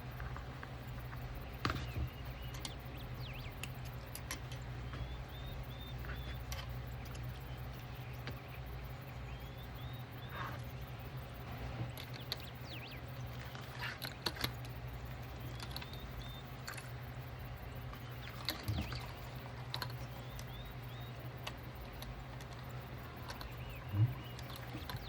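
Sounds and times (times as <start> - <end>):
faint bird chirps: 0.0 - 25.0
steady low hum: 0.0 - 25.0.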